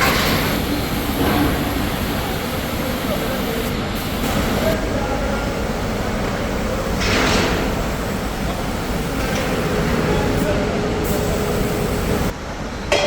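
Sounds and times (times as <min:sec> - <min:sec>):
workshop machinery noise: 0:00.0 - 0:13.0.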